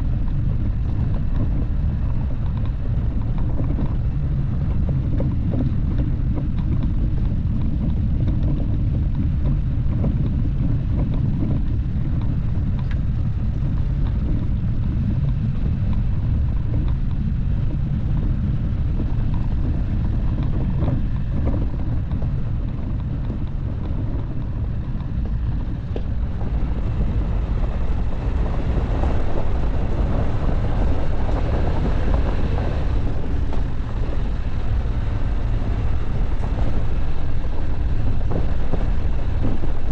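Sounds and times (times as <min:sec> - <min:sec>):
engine and tyre rumble: 0:00.0 - 0:39.9
wind on microphone: 0:00.0 - 0:39.9.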